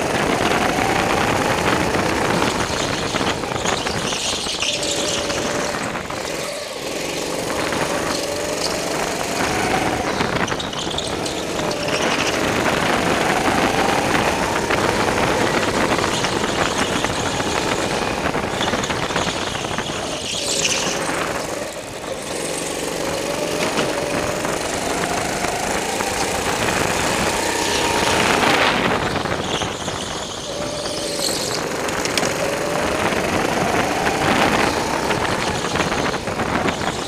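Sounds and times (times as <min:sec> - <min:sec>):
go-kart engine revving: 0:00.0 - 0:37.0.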